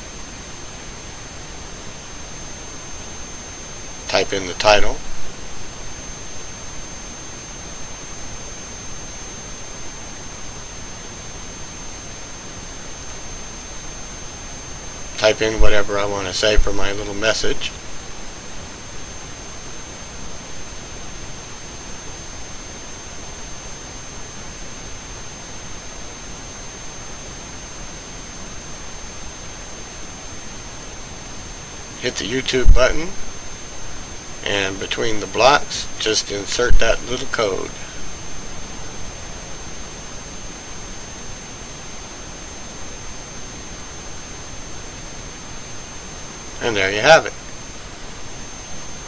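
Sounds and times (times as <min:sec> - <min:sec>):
background hiss: 0:00.0 - 0:49.0
thin high-pitched whine: 0:00.0 - 0:49.0.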